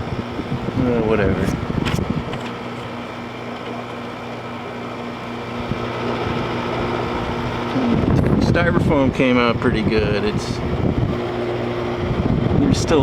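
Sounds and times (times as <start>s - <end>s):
air conditioner fan blowing: 0.0s - 13.0s
compressor humming: 0.0s - 13.0s.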